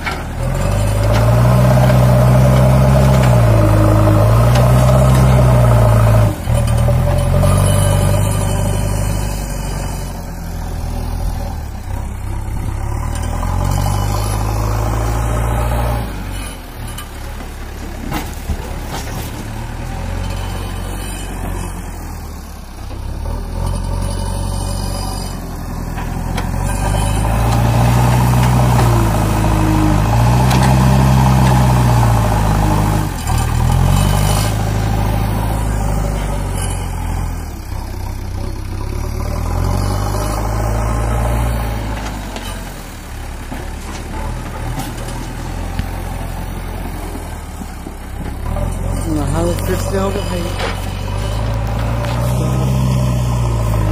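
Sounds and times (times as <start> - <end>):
diesel engine revving under load: 0.0 - 53.9.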